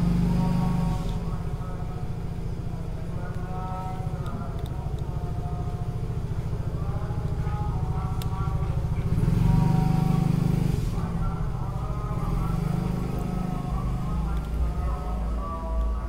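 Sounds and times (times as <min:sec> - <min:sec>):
engine throbbing: 0:00.0 - 0:16.0.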